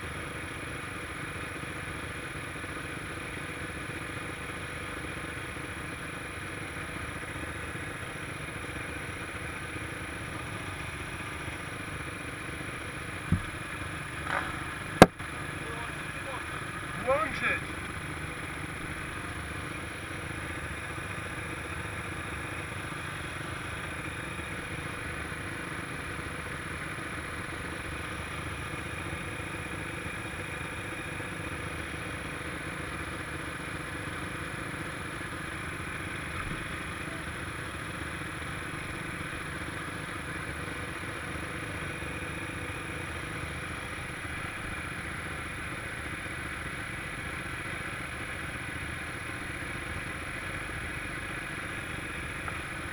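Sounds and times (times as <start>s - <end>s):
quad bike engine idling: 0.0s - 52.9s.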